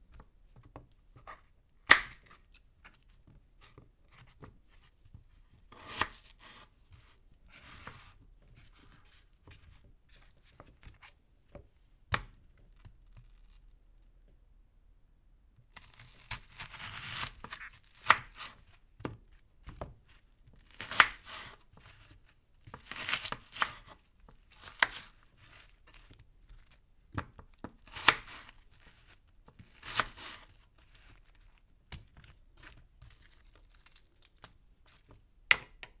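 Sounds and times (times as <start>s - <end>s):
knife slicing potato: 0.6s - 4.9s, 5.6s - 11.1s, 15.7s - 35.6s.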